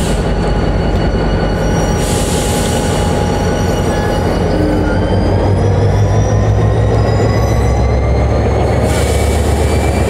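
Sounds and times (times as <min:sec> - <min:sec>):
diesel locomotive engine hum: 0:00.0 - 0:10.0
wheels squealing: 0:00.8 - 0:10.0.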